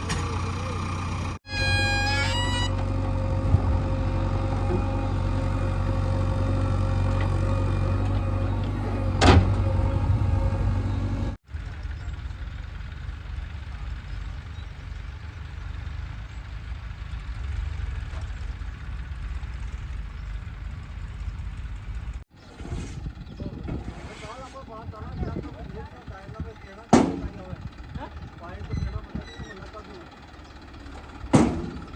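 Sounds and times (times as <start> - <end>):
heavy diesel engine running: 0.0 - 22.2, 23.1 - 31.9.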